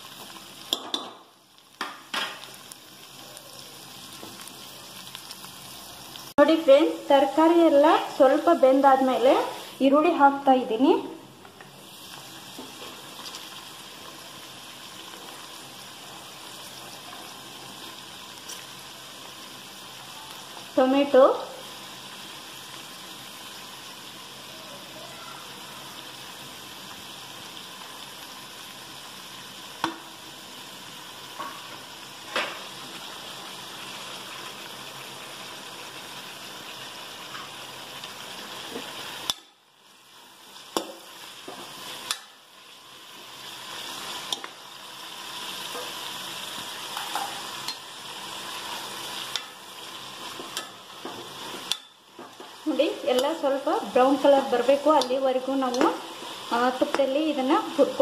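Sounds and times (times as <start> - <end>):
vegetables sizzling in a pot: 0.0 - 58.0.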